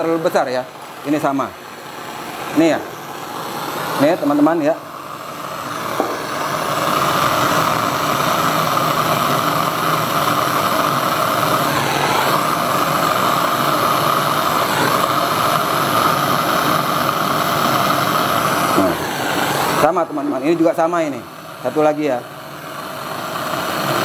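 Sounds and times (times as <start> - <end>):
gas torch flame hissing: 0.0 - 24.0.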